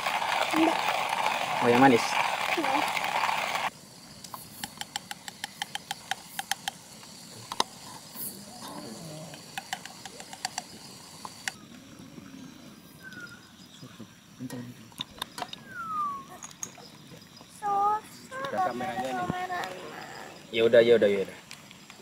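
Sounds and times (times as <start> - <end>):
gas camp stove hissing: 0.0 - 11.9, 13.0 - 22.0.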